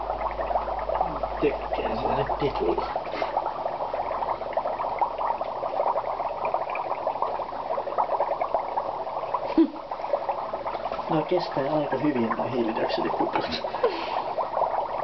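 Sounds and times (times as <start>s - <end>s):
suds fizzing and popping: 0.0s - 15.0s.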